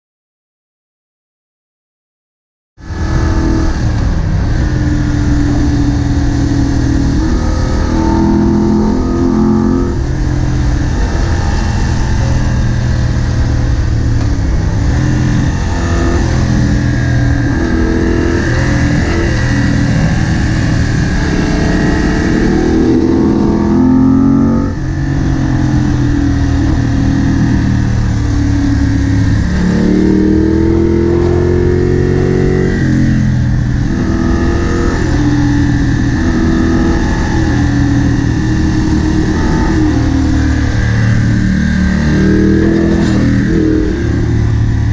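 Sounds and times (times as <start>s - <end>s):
motorcycle engine accelerating: 2.8s - 44.9s.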